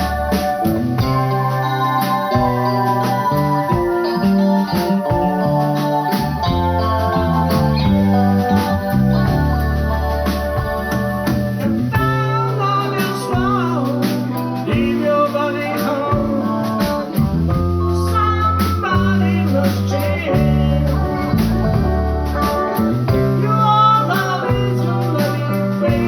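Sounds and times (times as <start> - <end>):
bending lead guitar lines: 0.0 - 26.0
blues band playing: 0.0 - 26.0.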